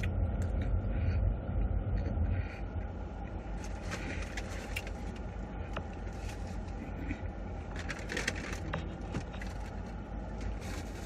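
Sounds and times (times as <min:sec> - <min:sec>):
car rumble: 0:00.0 - 0:11.0.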